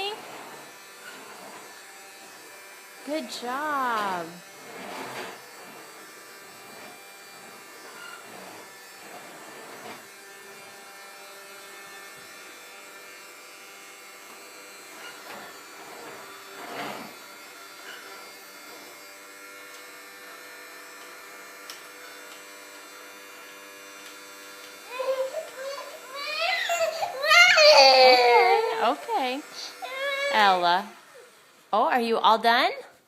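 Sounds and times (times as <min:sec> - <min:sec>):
vacuum cleaner running: 0:00.0 - 0:32.8.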